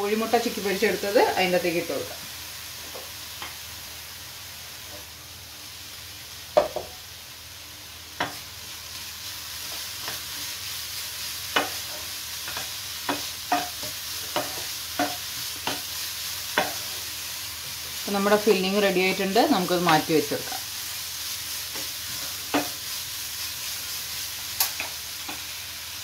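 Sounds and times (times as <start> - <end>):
filling sizzling in a frying pan: 0.0 - 26.0.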